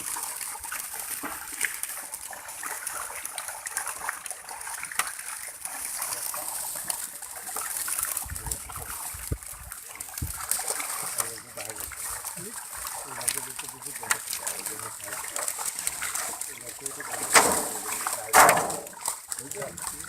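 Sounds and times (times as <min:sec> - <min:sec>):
water splashing and dripping: 0:00.0 - 0:20.0.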